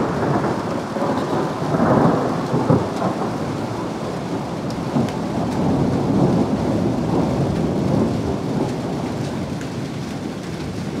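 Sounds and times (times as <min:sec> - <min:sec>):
thunder rumbling: 0:00.0 - 0:09.5.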